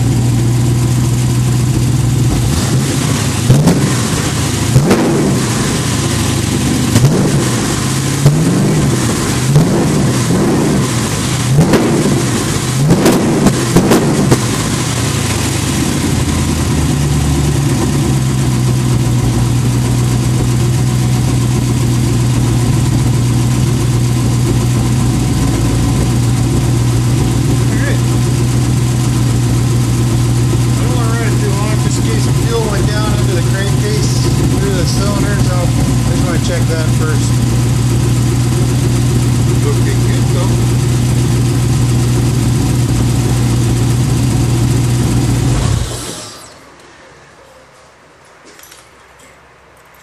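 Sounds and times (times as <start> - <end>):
car engine idling and revving: 0.0 - 46.7.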